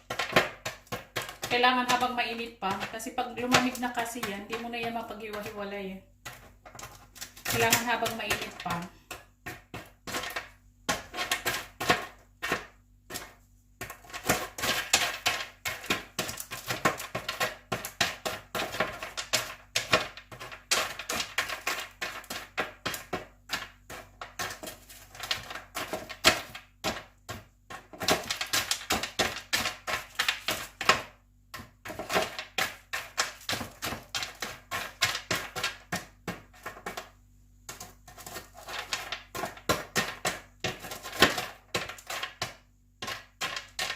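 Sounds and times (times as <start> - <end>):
fried pasta pieces clattering: 0.0 - 4.6, 6.2 - 43.9.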